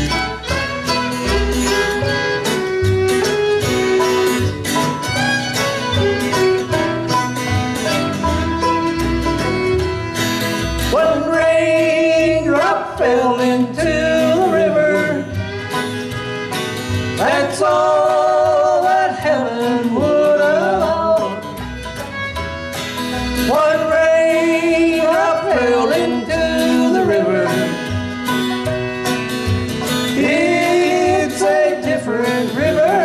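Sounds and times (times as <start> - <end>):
banjo: 0.0 - 33.0
fiddle: 0.0 - 33.0
guitar: 0.0 - 33.0
upright bass: 0.0 - 33.0.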